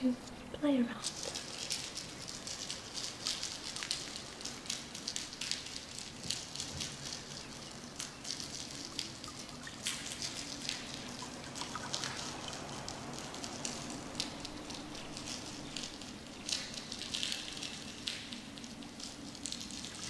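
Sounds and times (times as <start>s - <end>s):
trickling water: 0.0s - 20.0s.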